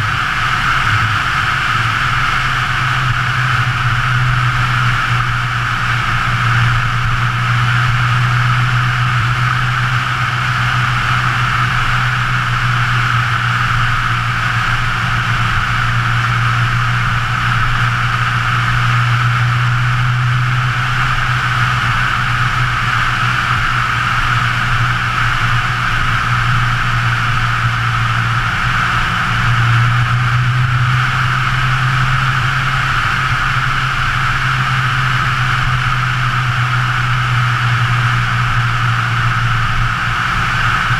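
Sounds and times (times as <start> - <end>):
car engine droning: 0.0 - 40.9
wind and road noise: 0.0 - 40.9.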